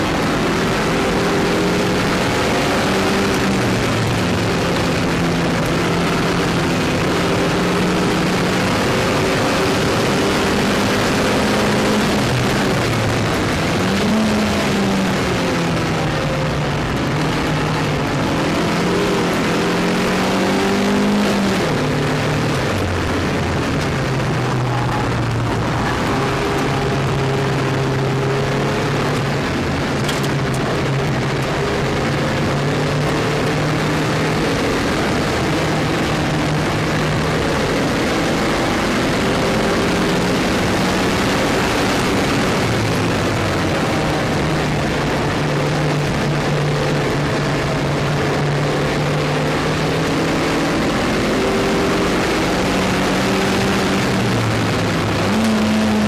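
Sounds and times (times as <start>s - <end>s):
car engine at speed: 0.0s - 56.0s
wind and road noise: 0.0s - 56.0s.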